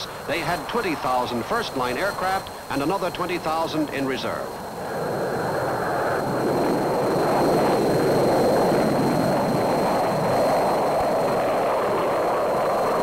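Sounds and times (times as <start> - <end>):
jet engines passing overhead: 0.0 - 13.0.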